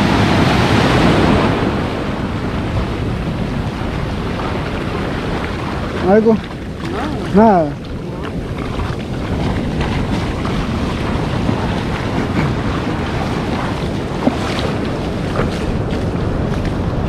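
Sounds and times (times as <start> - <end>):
ocean surf washing on shore: 0.0 - 17.0
wind buffeting microphone: 0.0 - 17.0.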